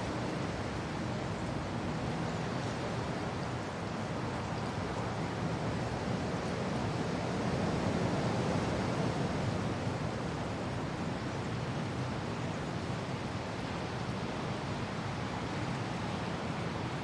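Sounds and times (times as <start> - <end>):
rain: 0.0 - 17.0
wind: 0.0 - 17.0.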